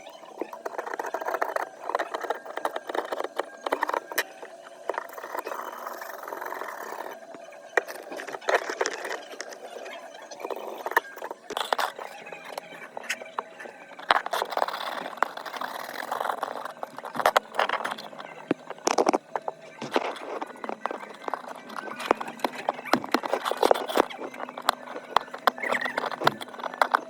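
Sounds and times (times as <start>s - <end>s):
scraping rustling noise: 0.0s - 27.0s.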